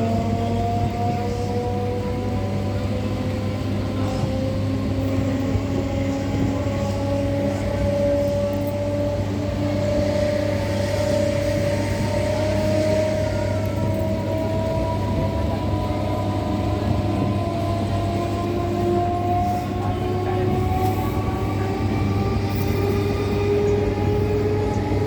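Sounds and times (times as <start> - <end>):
electric train traction motors whining: 0.0 - 25.0
train low hum and rumble: 0.0 - 25.0.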